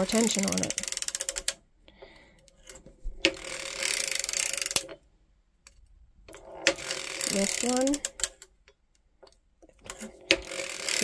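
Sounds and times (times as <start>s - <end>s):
knitting machine needles rattling: 0.0s - 11.0s.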